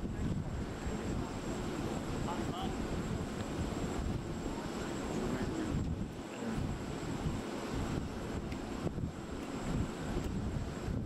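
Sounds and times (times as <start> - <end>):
aircraft engines rumbling: 0.0 - 11.0
wind buffeting microphone: 0.0 - 11.0.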